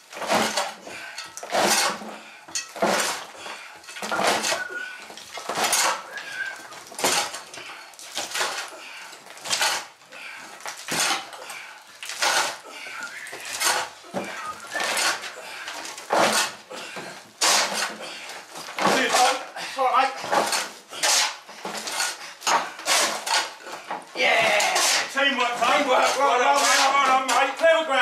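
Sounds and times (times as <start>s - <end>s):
metal shovel scraping soil and rubble: 0.0s - 27.9s.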